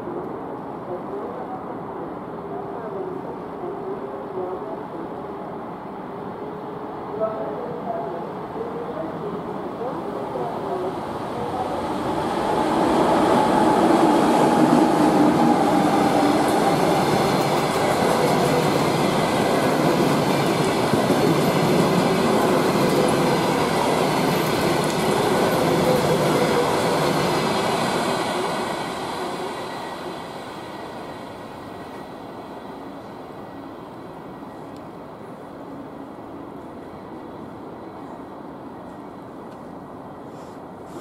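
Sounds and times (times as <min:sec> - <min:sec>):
train passing at speed: 0:00.0 - 0:41.0.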